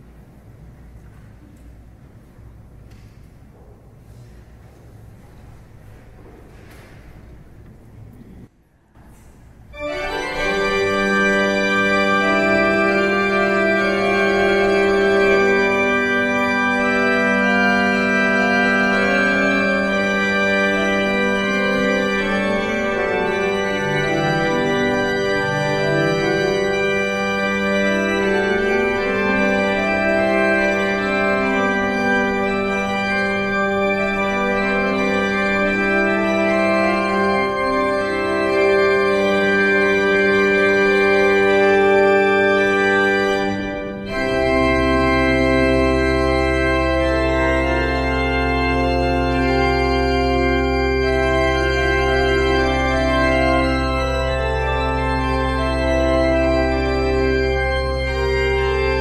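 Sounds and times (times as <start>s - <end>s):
organ music: 9.6s - 59.0s.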